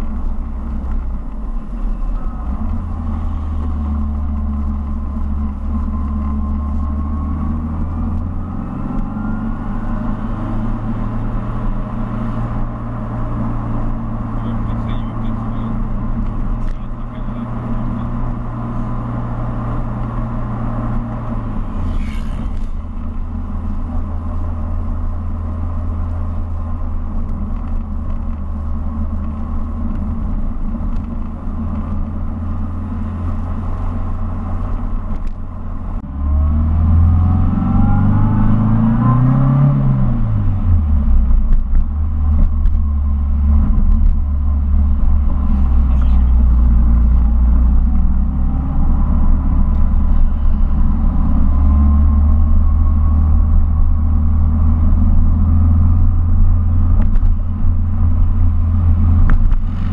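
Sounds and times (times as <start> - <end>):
car engine running: 0.0 - 59.9
road noise: 0.0 - 59.9.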